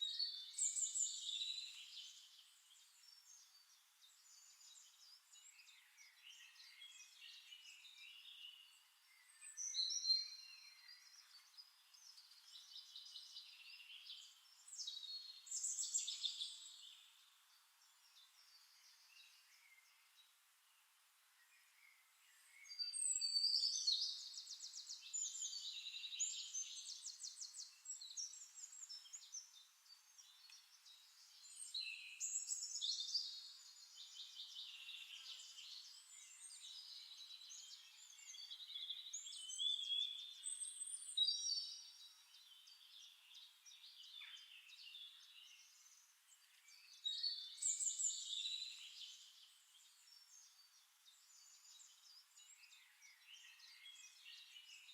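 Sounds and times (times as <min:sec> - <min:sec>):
songbirds chirping and trilling: 0:00.0 - 0:54.9.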